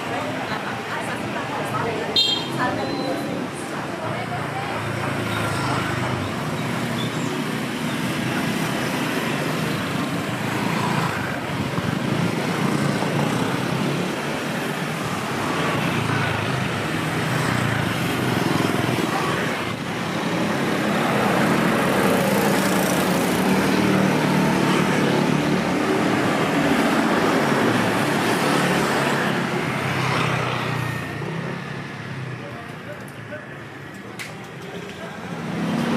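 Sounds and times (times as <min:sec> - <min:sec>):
passing vehicle engines: 0:00.0 - 0:35.9.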